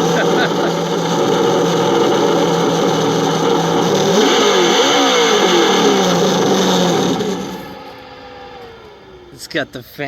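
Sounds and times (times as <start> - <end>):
high whine: 0.0 - 10.0
radio-controlled truck motor: 0.0 - 10.0.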